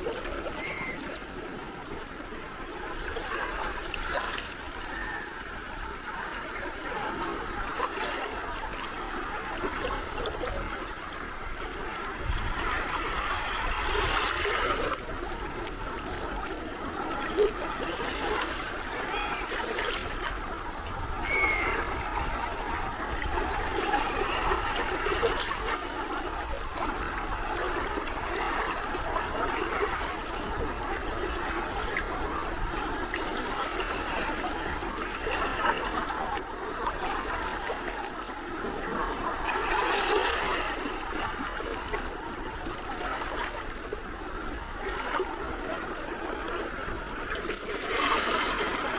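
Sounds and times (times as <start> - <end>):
sea waves lapping at shore: 0.0 - 48.9.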